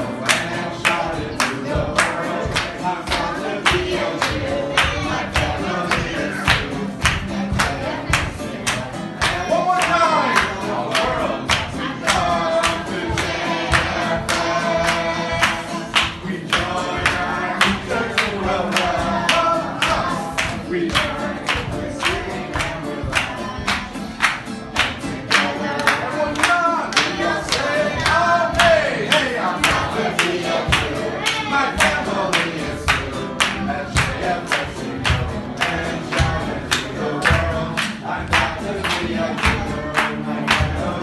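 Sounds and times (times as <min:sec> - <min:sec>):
acoustic guitar: 0:00.0 - 0:41.0
group singing: 0:00.0 - 0:41.0
hand clapping: 0:00.0 - 0:41.0.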